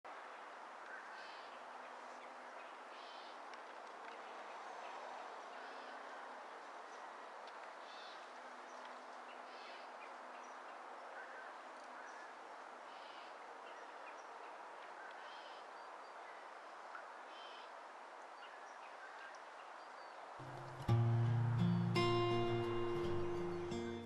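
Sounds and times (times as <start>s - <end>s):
steady outdoor hiss: 0.1s - 24.0s.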